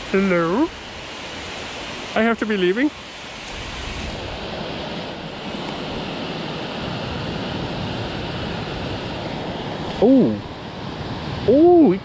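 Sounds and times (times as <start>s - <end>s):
water rushing over dam spillway: 0.0s - 12.0s.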